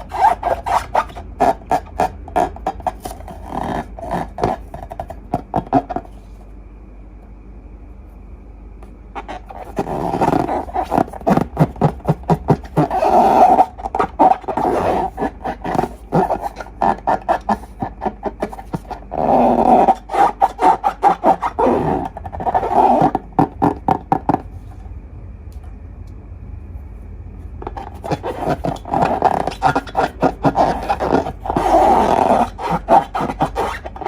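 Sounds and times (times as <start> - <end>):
rasping bursts: 0.0 - 6.1, 9.2 - 24.5, 27.6 - 34.0.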